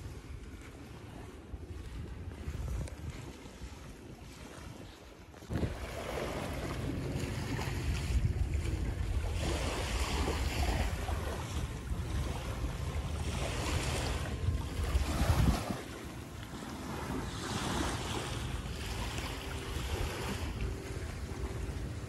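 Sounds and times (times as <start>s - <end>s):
small waves washing onto beach: 0.0s - 22.0s
wind rumbling on microphone: 0.0s - 22.0s.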